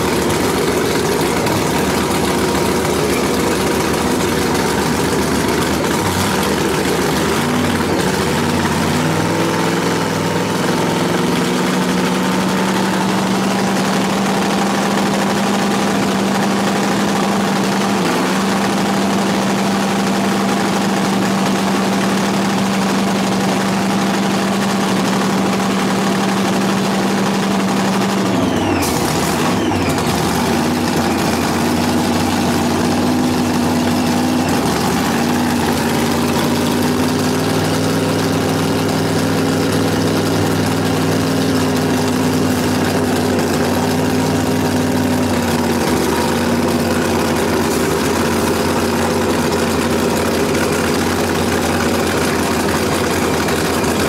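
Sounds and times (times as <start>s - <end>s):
drag car engine idling: 0.0s - 54.0s.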